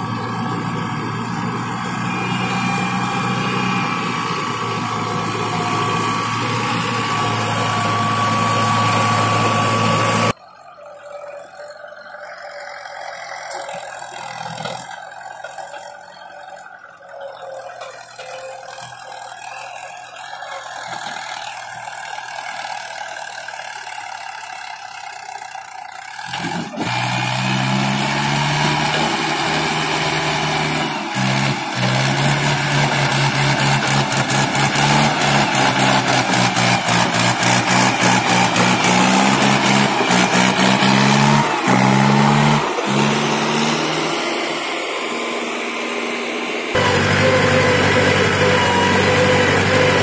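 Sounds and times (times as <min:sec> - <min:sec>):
tractor diesel engine: 0:00.0 - 0:50.0.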